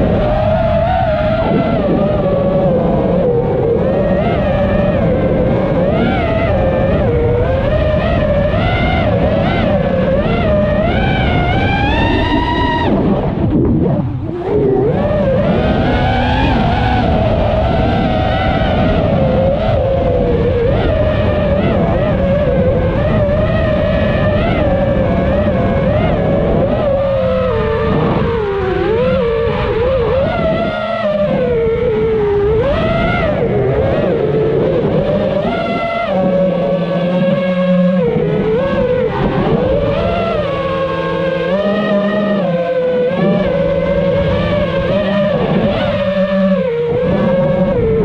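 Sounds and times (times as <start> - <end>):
drone motors whining: 0.0 - 48.0
strong wind rumble: 0.0 - 48.0.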